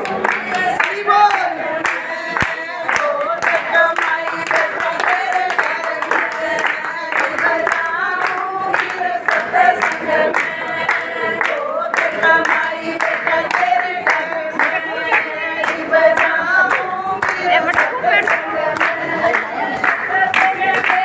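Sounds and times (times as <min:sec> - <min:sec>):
group singing devotional chant: 0:00.0 - 0:21.0
hand claps: 0:00.0 - 0:21.0.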